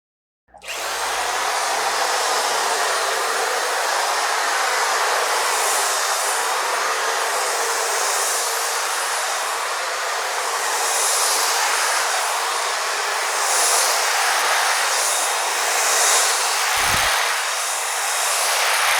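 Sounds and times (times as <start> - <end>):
electric hedge trimmer running: 0.5 - 18.9.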